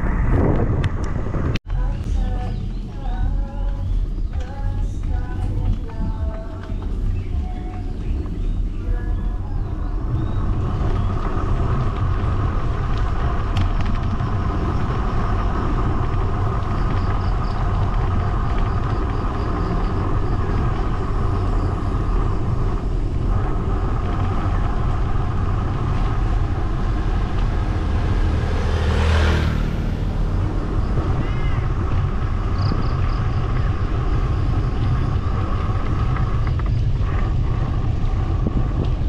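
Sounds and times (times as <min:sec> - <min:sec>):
wind and road noise: 0:00.0 - 0:39.0.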